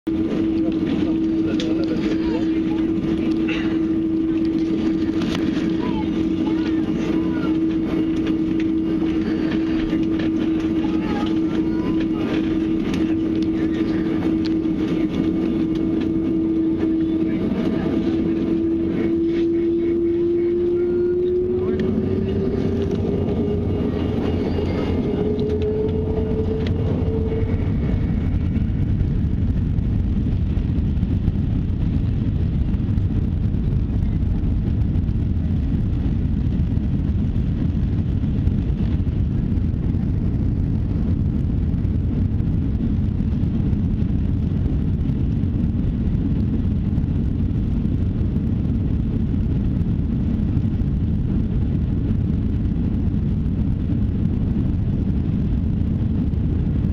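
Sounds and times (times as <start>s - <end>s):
low engine rumble: 0.0s - 56.9s
jet engine whine rising: 0.1s - 56.9s.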